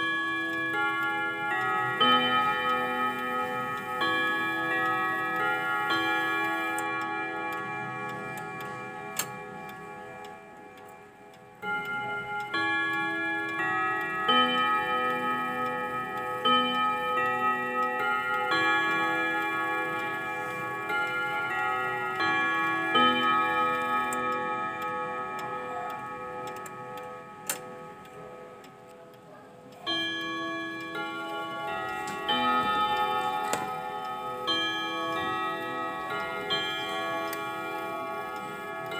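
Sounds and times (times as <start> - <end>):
clock chime tune: 0.0 - 38.9.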